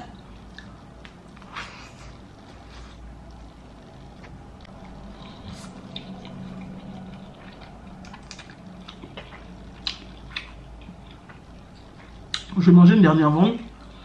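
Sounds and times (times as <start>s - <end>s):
soft chewing with mouth clicks: 0.0s - 12.6s
low steady hum: 0.0s - 14.0s.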